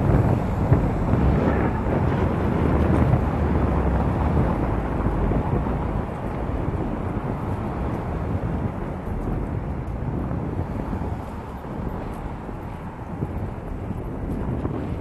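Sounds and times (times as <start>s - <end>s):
street traffic: 0.0s - 15.0s
wind buffeting microphone: 0.0s - 15.0s.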